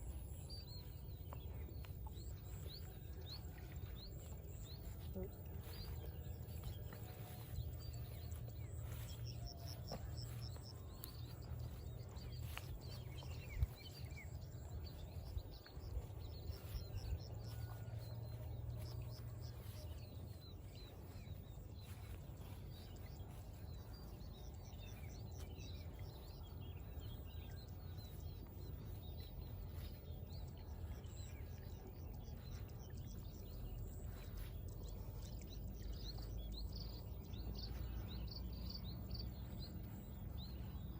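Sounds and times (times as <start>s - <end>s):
small birds chirping: 0.0s - 40.9s
steady low rumble: 0.0s - 40.9s.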